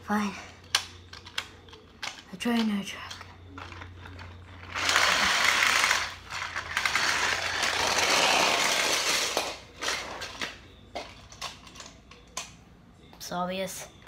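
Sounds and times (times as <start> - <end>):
toy motor whirring and rattling: 0.1 - 12.4.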